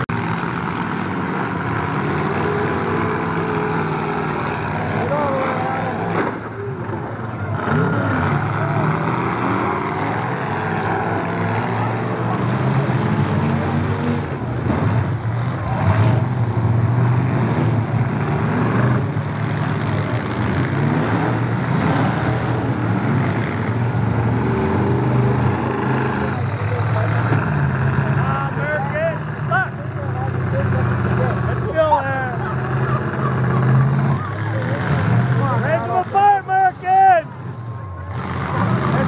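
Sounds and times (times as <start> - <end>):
truck engines revving: 0.0 - 39.0.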